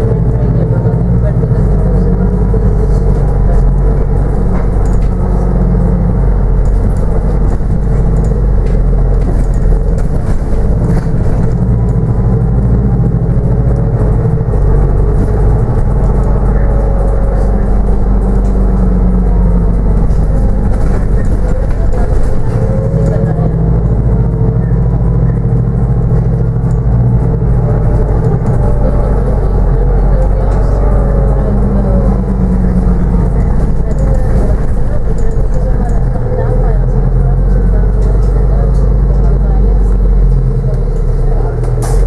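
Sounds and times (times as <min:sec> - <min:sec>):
faint drifting tones: 0:00.0 - 0:41.8
bus engine and road rumble: 0:00.0 - 0:42.0.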